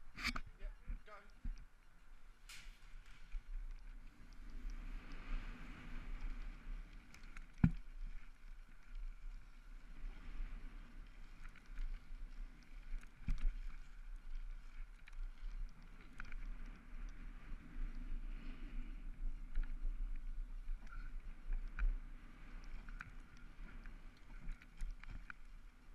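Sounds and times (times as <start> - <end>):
bike tyres and wind rumble: 0.0 - 25.9.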